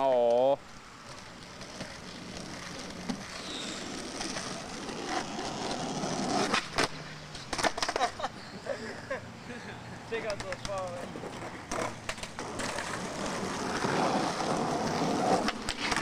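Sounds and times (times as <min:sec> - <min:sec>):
skateboard clacking on ground: 0:00.0 - 0:08.3, 0:10.2 - 0:16.0
skateboard wheels rolling on concrete: 0:00.0 - 0:16.0.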